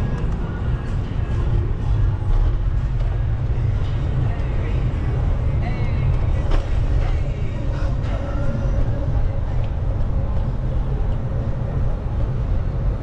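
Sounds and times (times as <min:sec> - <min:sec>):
city street traffic: 0:00.0 - 0:13.0
wind rumble on microphone: 0:00.0 - 0:13.0.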